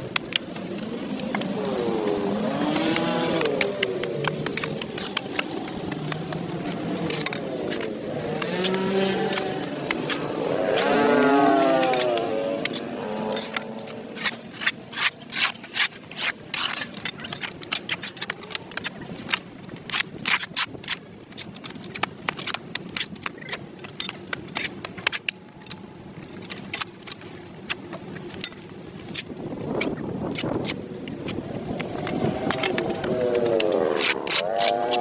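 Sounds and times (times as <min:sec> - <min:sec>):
hand tool scraping concrete: 0:00.0 - 0:25.8, 0:26.4 - 0:35.0.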